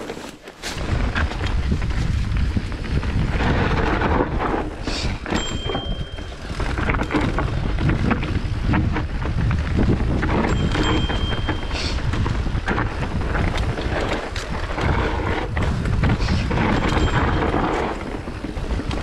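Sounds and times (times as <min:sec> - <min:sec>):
bike rattling over rocks: 0:00.0 - 0:19.0
wind rumble on microphone: 0:00.6 - 0:19.0.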